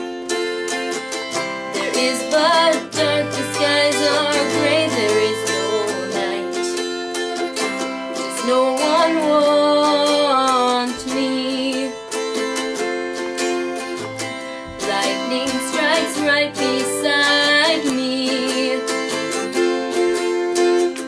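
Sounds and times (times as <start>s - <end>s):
acoustic guitar strummed chords: 0.0s - 21.0s.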